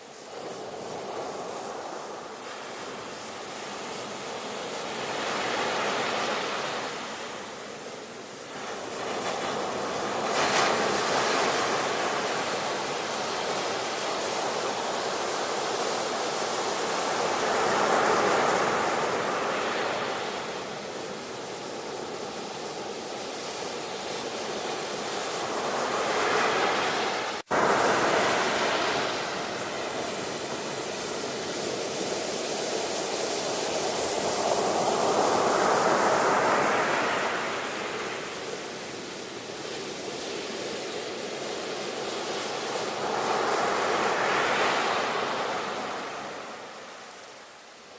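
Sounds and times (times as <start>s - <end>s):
ocean waves washing in: 0.0s - 47.9s.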